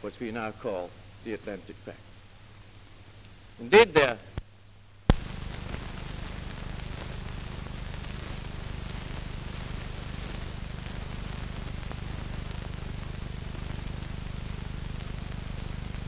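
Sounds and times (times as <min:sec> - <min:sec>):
film soundtrack hiss and hum: 0:00.0 - 0:16.0.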